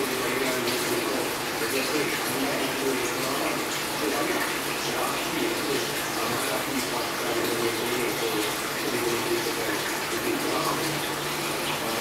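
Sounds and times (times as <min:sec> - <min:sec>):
aquarium water running: 0:00.0 - 0:12.0.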